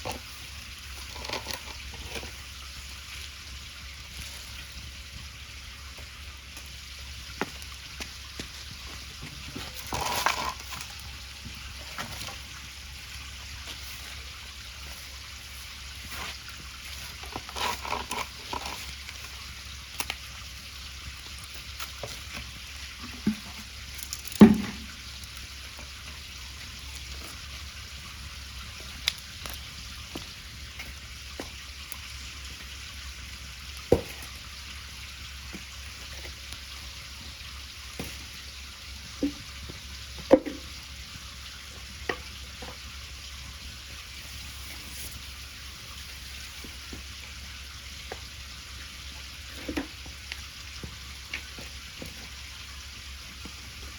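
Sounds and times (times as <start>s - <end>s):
bonfire hissing and crackling: 0.0s - 53.9s.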